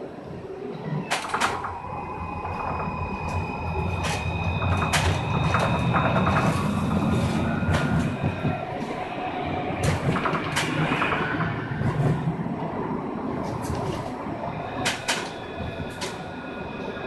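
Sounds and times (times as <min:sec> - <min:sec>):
tram running gear rumble: 0:00.0 - 0:17.0
wheels clicking on rails: 0:00.9 - 0:17.0.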